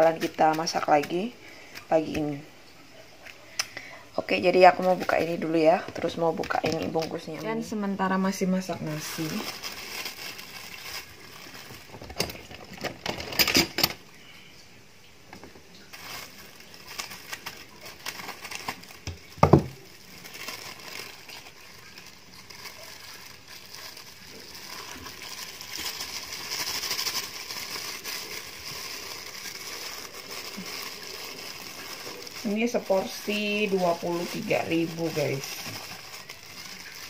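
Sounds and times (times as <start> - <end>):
plastic bag crinkling: 0.0 - 2.4, 3.8 - 13.9, 15.8 - 37.0.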